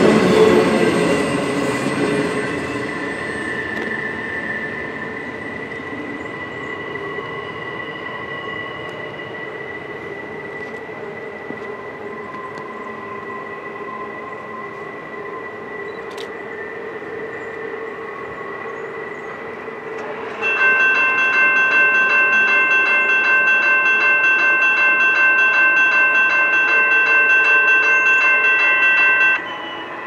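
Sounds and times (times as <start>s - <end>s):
train running: 0.0s - 30.0s.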